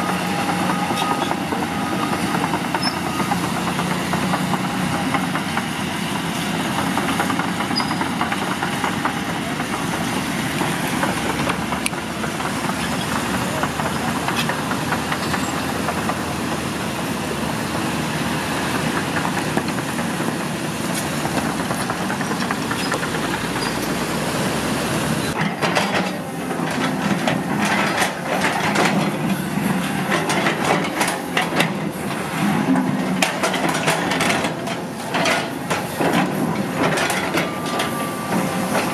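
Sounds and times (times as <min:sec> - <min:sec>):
excavator diesel engine running: 0:00.0 - 0:38.9
steel tracks clanking: 0:00.0 - 0:38.9.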